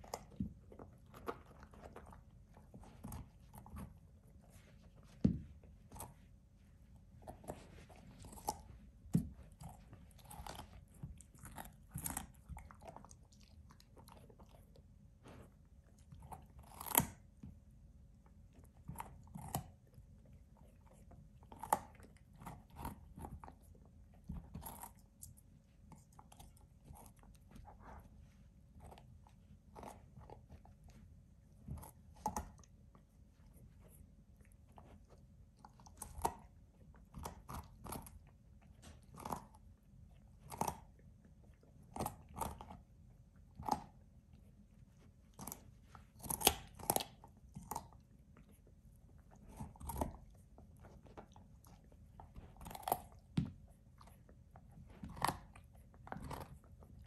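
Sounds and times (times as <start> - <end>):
puppy crunching carrot: 0.0 - 57.0.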